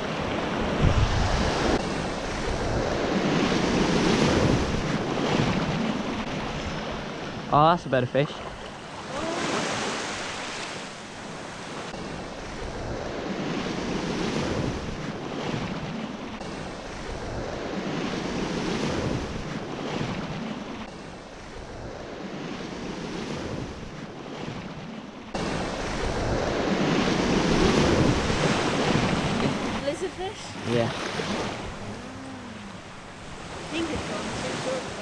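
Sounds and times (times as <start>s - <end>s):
wind buffeting microphone: 0.0s - 7.5s, 8.3s - 35.0s
small waves washing over sand: 0.0s - 35.0s.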